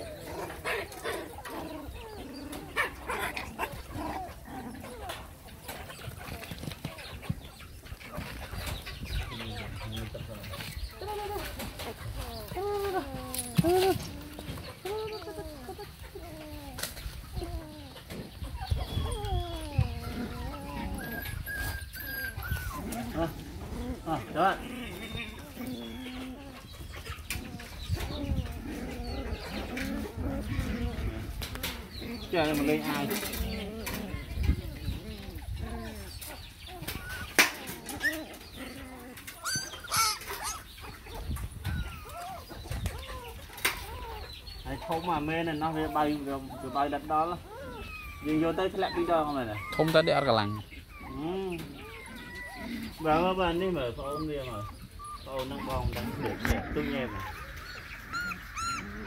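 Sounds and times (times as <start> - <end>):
puppies whining and whimpering: 0.0 - 59.0.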